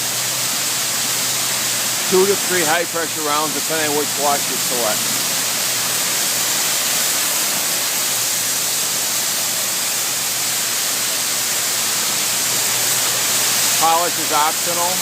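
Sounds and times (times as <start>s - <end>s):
water jets spraying car: 0.0s - 15.0s.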